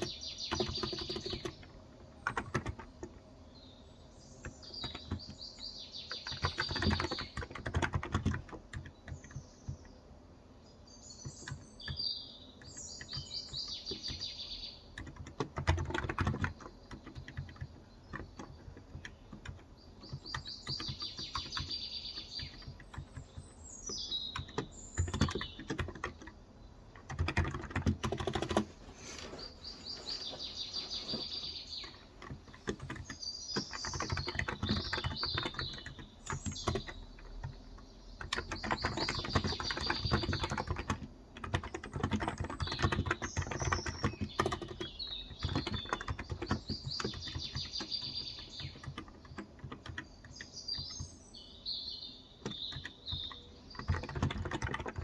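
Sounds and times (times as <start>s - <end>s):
keyboard typing: 0.0s - 3.2s, 4.4s - 5.4s, 6.1s - 9.9s, 12.6s - 14.3s, 14.9s - 28.8s, 30.2s - 51.2s, 52.4s - 55.0s
small birds chirping: 0.0s - 55.0s.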